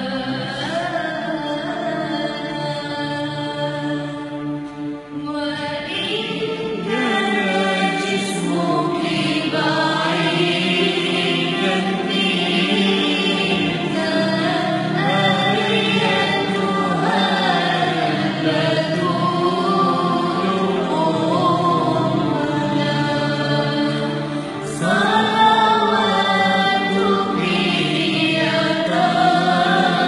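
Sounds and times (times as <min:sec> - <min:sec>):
choral voices: 0:00.0 - 0:30.0.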